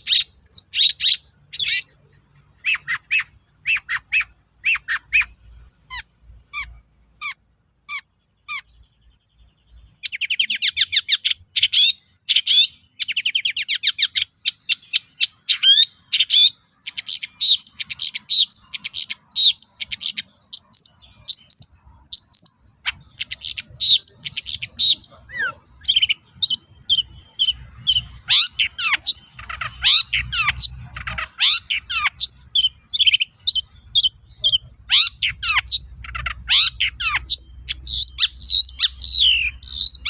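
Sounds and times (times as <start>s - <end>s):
bird calling and singing: 0.0s - 40.0s.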